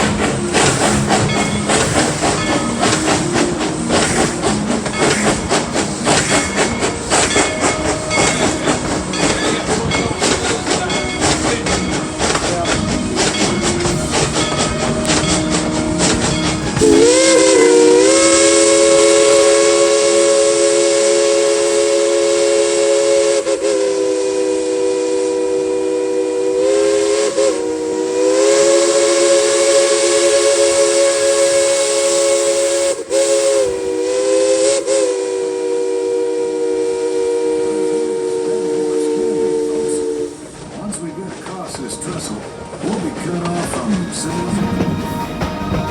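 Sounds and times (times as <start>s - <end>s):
steam hissing: 0.0s - 45.9s
steam locomotive chime whistle: 0.0s - 45.9s.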